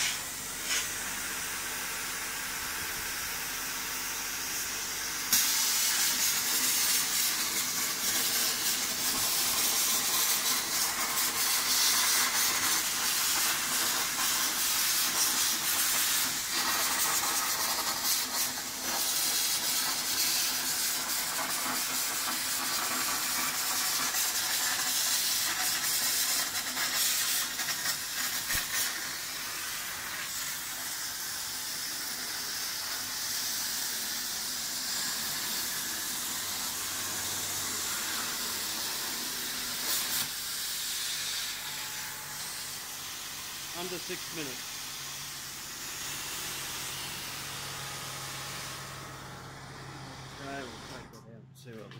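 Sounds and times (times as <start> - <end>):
plasma cutter hissing: 0.0 - 49.2.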